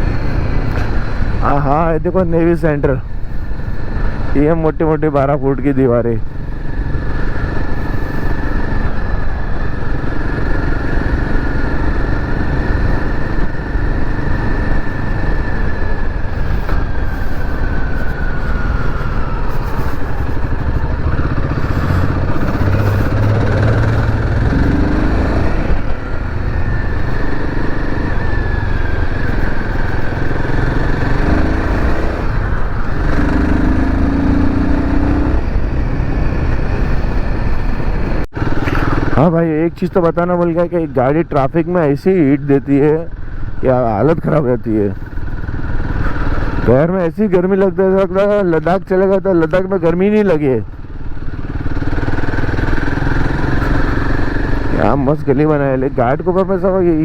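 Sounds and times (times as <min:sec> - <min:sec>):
motorcycle engine accelerating: 0:00.0 - 0:57.0
road noise: 0:00.0 - 0:57.0.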